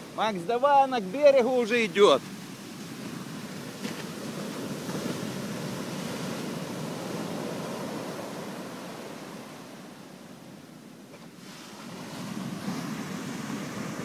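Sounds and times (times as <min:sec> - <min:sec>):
ocean surf breaking on beach: 0:00.0 - 0:14.0.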